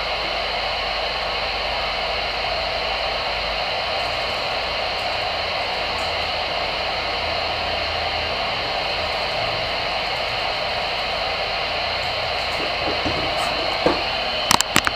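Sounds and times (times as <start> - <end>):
radio static hiss: 0.0 - 14.9.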